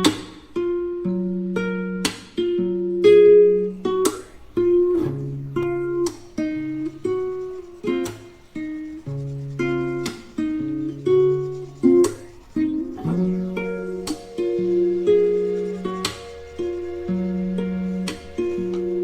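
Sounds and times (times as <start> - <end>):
picked string instrument: 2.6 - 19.0.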